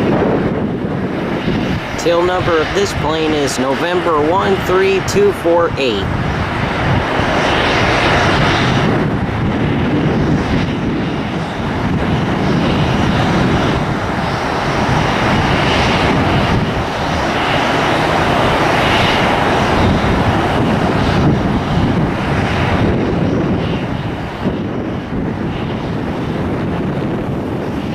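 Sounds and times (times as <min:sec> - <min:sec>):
jet engines running: 0:00.0 - 0:27.9.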